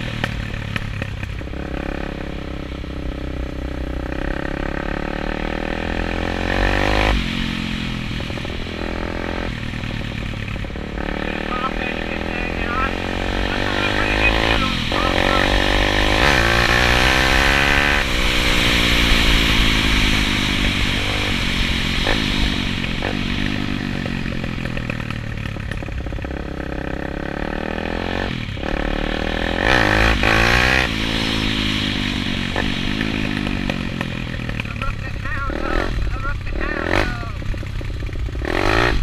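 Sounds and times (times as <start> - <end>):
pit bike engine revving: 0.0 - 39.0.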